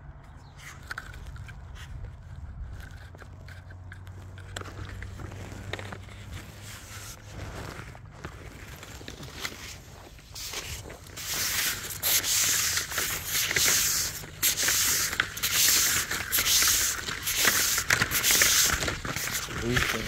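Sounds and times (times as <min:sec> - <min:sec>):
plastic tape scraping microphone: 0:00.2 - 0:20.0.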